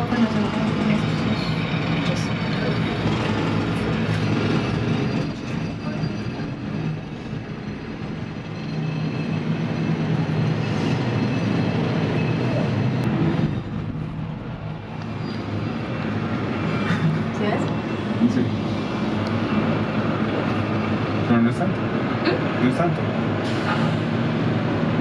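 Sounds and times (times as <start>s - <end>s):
cable car cabin rumble and rattle: 0.0s - 25.0s.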